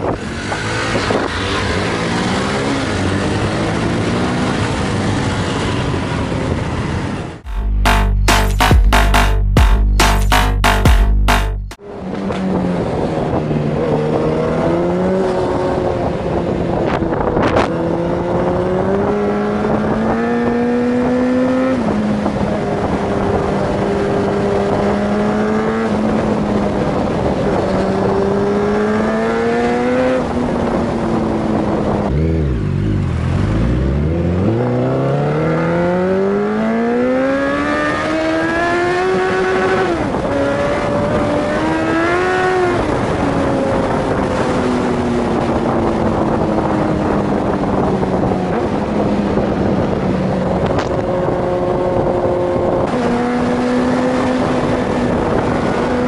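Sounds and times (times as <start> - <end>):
wind noise: 0.0 - 7.4, 11.8 - 56.0
motorcycle engine revving: 0.0 - 56.0.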